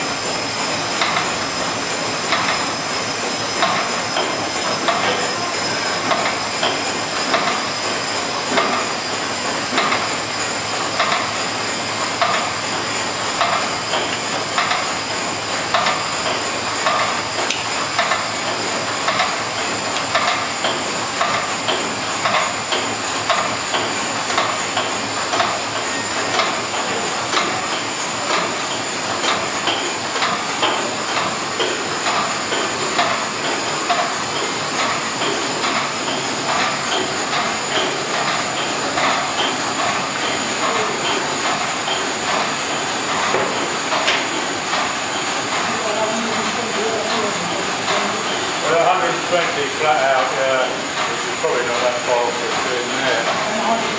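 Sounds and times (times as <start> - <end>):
steam engine rhythmic knocking: 0.0 - 53.9.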